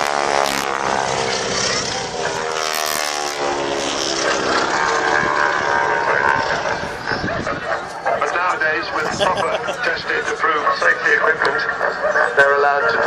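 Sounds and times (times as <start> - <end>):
biplane engine and propeller passing: 0.0 - 13.0.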